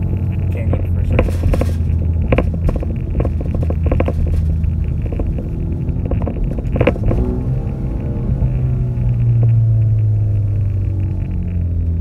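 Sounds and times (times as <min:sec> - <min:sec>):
car exhaust drone from cabin: 0:00.0 - 0:12.0.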